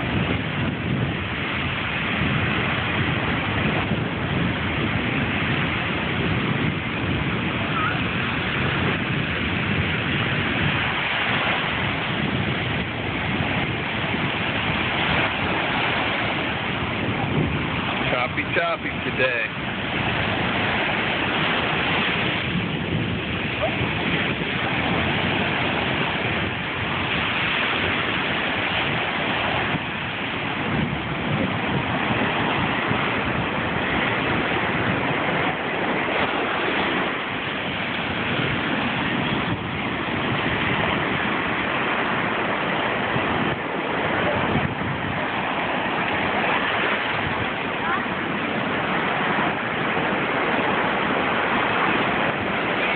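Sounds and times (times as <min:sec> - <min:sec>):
waves breaking on sand: 0:00.0 - 0:52.9.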